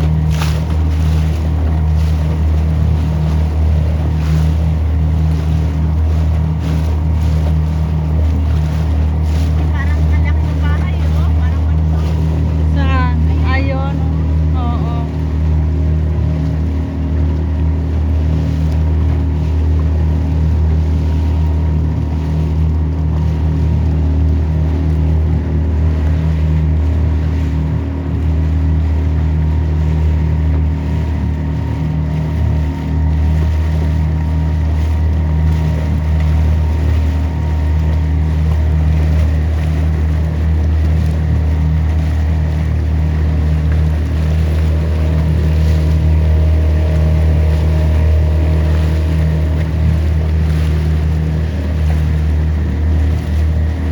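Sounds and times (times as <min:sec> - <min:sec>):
motorboat engine running steadily: 0:00.0 - 0:53.9.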